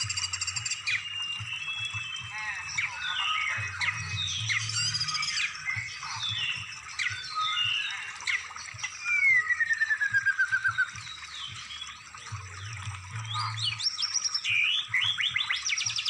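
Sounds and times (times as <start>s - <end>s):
songbird chirps and whistles: 0.0s - 16.0s.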